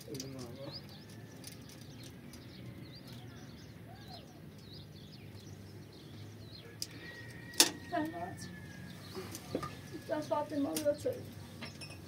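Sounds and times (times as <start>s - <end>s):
birds chirping: 0.0s - 12.0s
low outdoor background hum: 0.0s - 12.0s.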